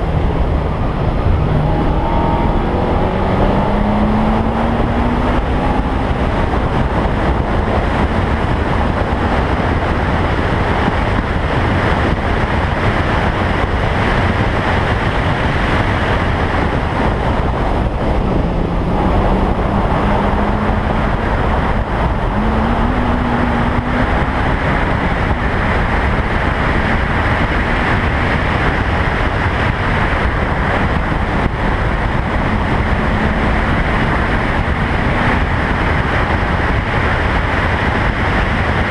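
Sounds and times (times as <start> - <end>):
car engine accelerating: 0.0 - 38.9
wind noise on microphone: 0.0 - 38.9.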